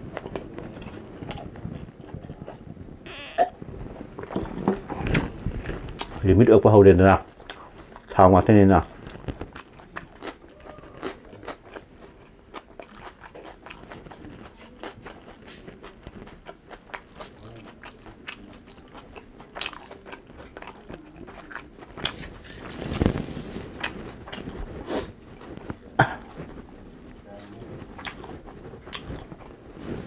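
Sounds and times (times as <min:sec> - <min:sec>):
close-miked chewing: 0:00.0 - 0:02.8, 0:04.0 - 0:30.0.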